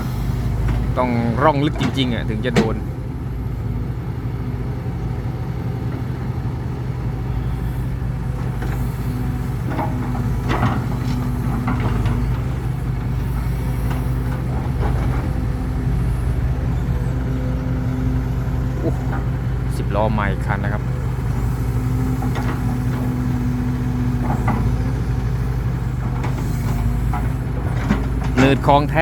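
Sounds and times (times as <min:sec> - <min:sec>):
heavy truck engine running: 0:00.0 - 0:29.0.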